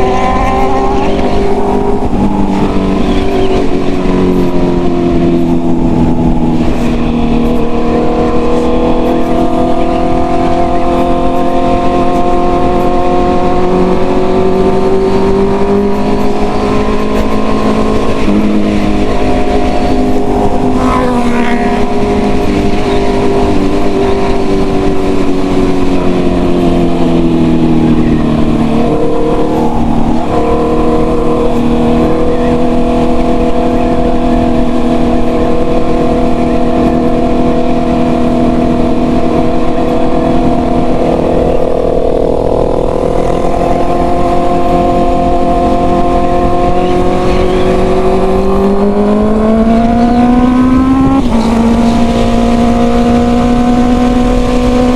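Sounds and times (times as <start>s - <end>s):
gear change: 0.0s - 54.9s
motorcycle engine cruising: 0.0s - 54.9s.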